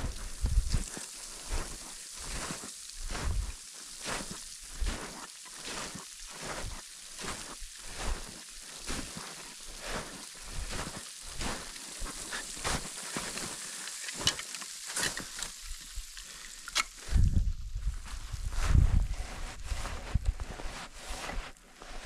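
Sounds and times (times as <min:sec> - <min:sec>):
footsteps crunching in snow: 0:00.0 - 0:22.0.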